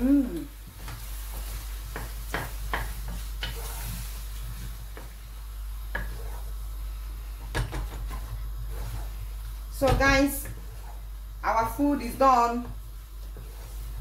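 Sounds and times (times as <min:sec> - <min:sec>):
wooden spoon scraping a pot: 0:00.7 - 0:05.2, 0:05.9 - 0:06.6, 0:07.7 - 0:14.0.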